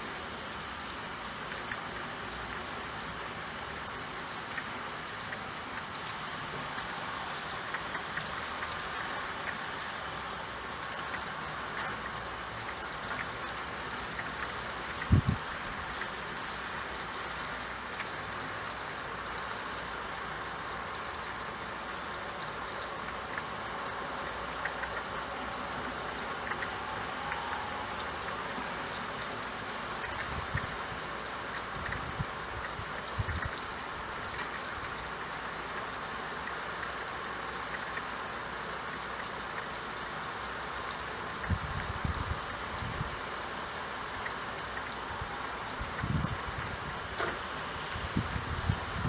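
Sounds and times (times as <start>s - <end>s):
sharp ticks of raindrops: 0.0s - 49.0s
steady rain falling: 0.0s - 49.0s.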